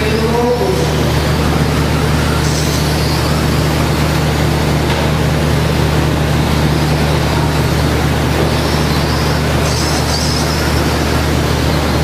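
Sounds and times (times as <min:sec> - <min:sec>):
low hum in hall: 0:00.0 - 0:12.0.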